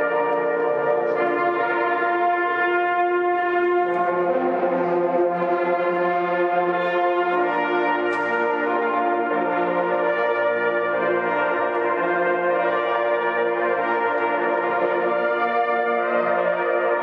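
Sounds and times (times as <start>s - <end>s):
hunting horns playing held chords: 0.0s - 17.0s.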